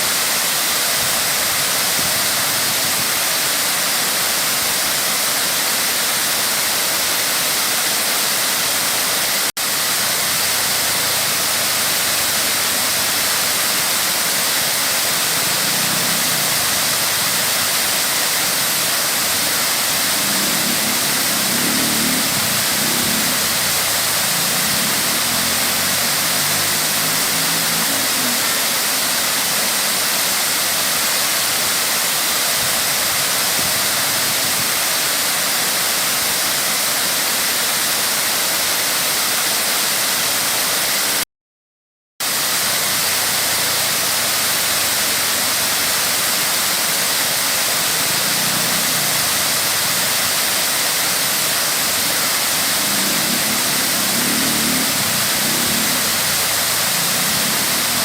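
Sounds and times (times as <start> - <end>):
waterfall rushing: 0.0 - 41.2, 42.2 - 58.0.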